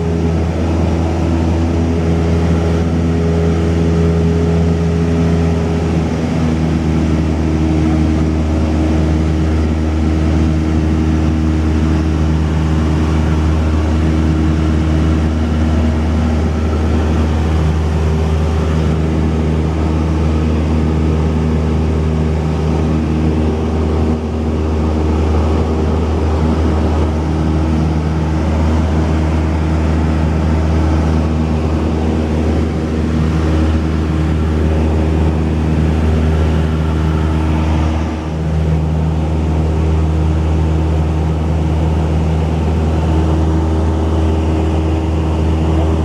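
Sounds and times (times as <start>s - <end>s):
propeller plane engine droning: 0.0s - 46.0s.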